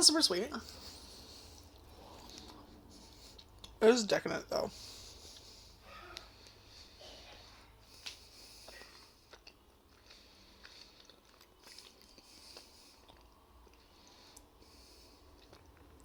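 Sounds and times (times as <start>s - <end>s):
person chewing brownie: 0.6s - 3.8s, 4.7s - 16.0s.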